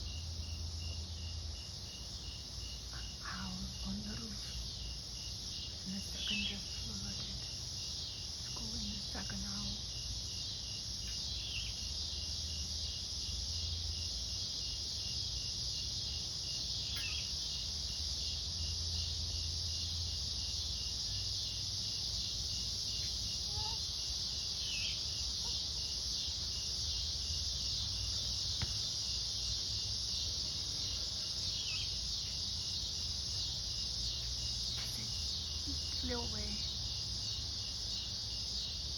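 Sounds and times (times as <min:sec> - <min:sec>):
cricket chirping: 0:00.0 - 0:38.9
shrill insect hiss: 0:00.0 - 0:38.9.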